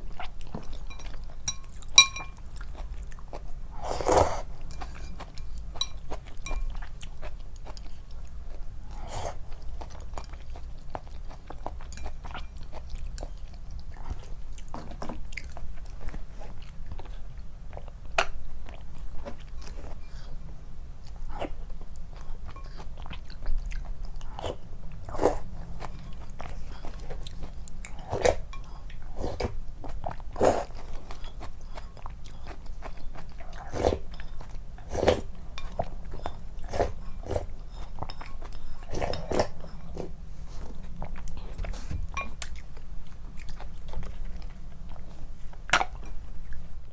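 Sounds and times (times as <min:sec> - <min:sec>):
person chewing soft food: 0:00.0 - 0:46.9
steady low hum: 0:00.0 - 0:46.9.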